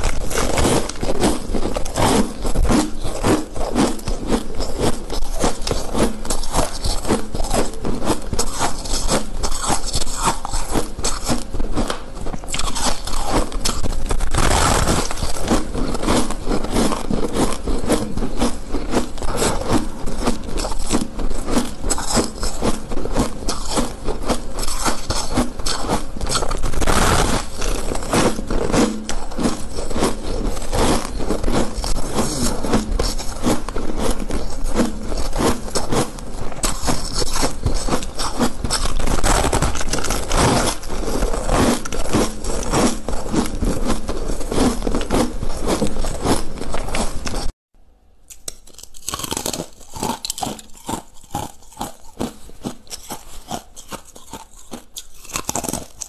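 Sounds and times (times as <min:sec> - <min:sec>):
crunching ice: 0:00.0 - 0:47.5, 0:48.3 - 0:56.0.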